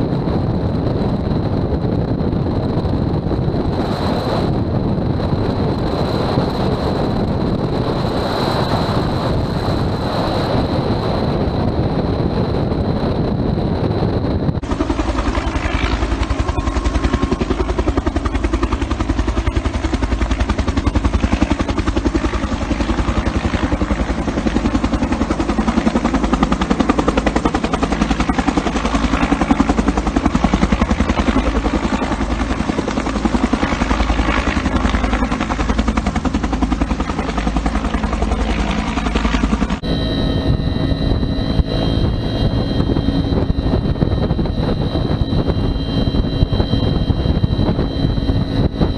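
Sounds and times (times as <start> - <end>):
helicopter rotor beating: 0.0 - 48.9.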